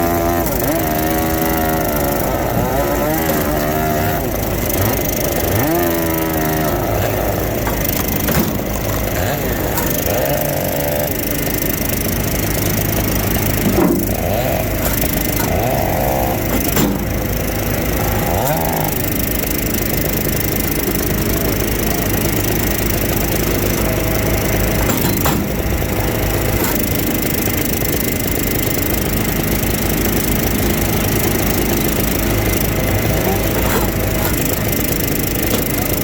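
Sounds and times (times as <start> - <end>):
firewood machine engine hum: 0.0 - 36.0.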